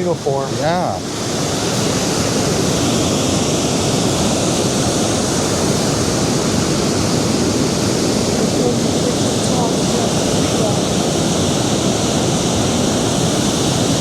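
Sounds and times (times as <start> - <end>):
surf washing onto beach: 0.0 - 14.0.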